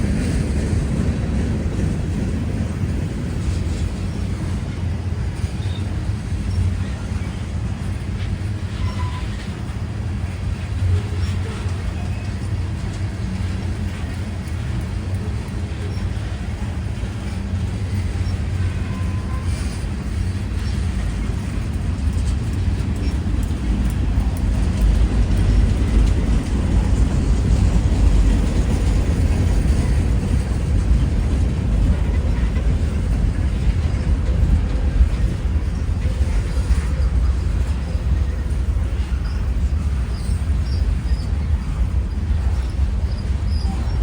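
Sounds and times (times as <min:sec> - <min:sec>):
freight train rumbling past: 0:00.0 - 0:44.0.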